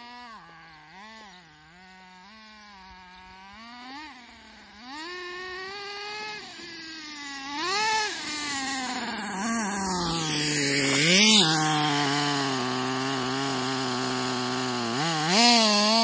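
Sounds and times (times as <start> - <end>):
nitro engine revving: 0.0 - 16.0.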